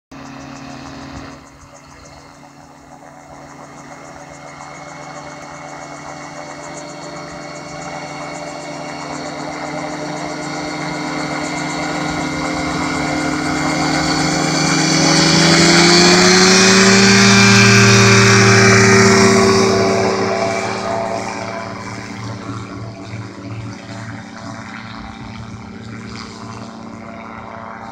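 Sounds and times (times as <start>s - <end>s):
gyroplane engine and propeller: 0.1s - 27.9s.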